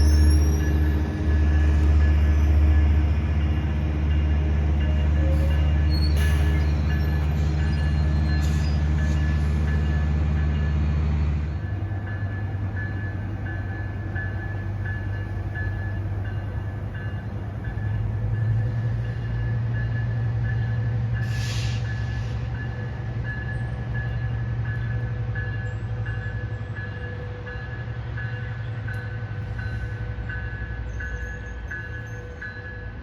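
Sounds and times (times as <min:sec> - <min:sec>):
railroad crossing bell dinging: 0:00.0 - 0:10.9, 0:11.5 - 0:33.0
train diesel drone: 0:00.0 - 0:33.0.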